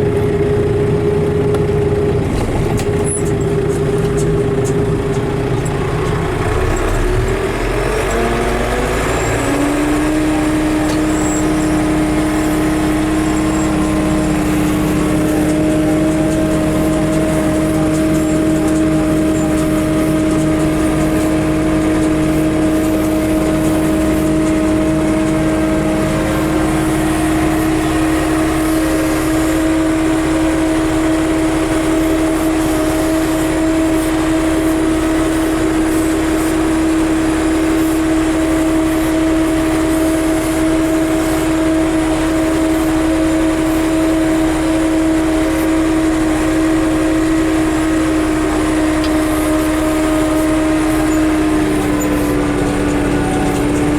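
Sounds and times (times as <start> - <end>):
tractor engine humming: 0.0 - 53.9.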